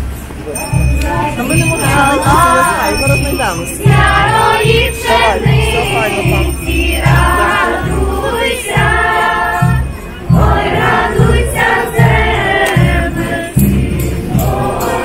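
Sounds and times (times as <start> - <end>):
drum beating: 0.0 - 15.0
group singing a carol: 0.7 - 15.0.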